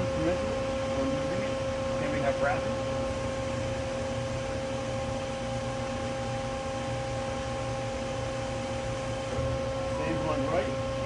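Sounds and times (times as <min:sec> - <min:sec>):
hydraulic unit hum and whine: 0:00.0 - 0:11.0.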